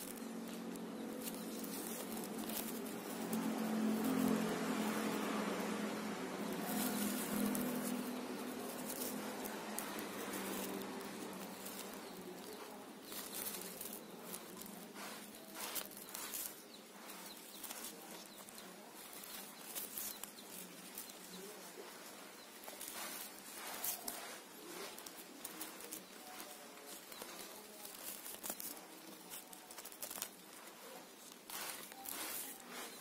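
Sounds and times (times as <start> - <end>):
plastic strip rustling and crinkling: 0.0 - 33.0.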